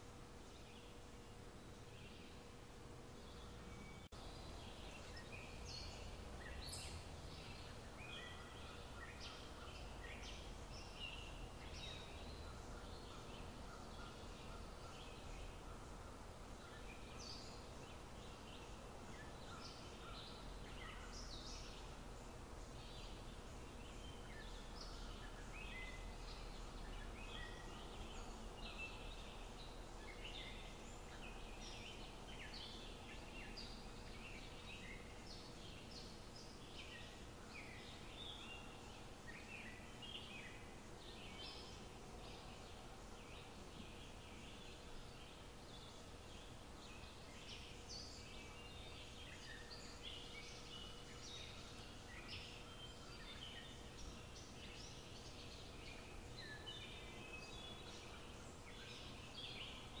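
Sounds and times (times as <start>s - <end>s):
low steady hum: 0.0s - 60.0s
small birds chirping: 0.0s - 60.0s.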